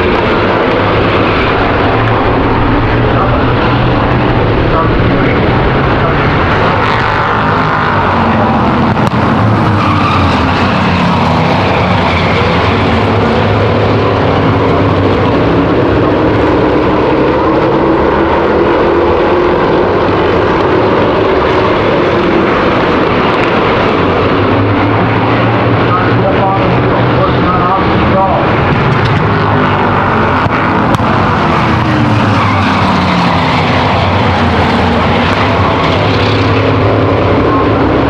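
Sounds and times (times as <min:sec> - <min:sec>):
racing engines: 0:00.0 - 0:38.0.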